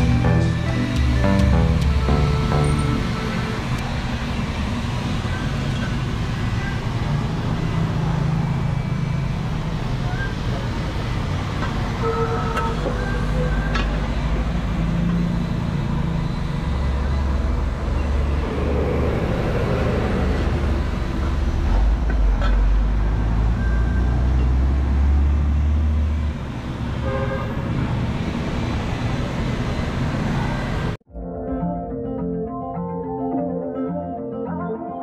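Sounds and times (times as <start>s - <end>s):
heavy vehicle engine rumbling: 0.0s - 31.1s
road noise: 0.0s - 31.1s.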